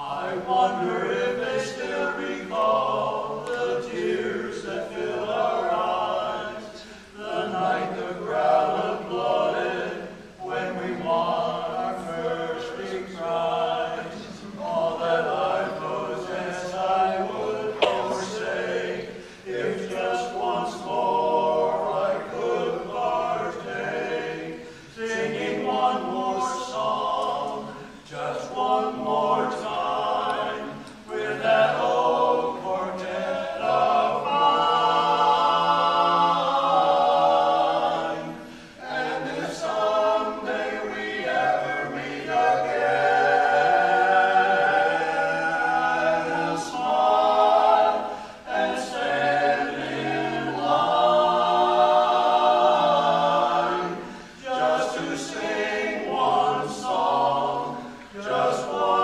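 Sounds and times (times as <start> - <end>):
men singing a cappella: 0.0 - 59.0.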